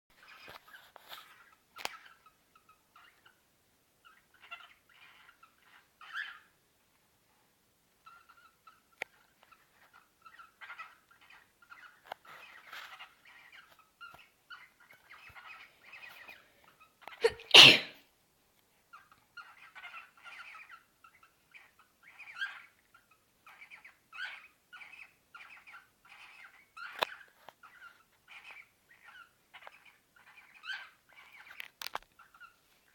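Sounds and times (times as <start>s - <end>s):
small birds twittering: 0.1s - 17.9s, 18.8s - 32.9s.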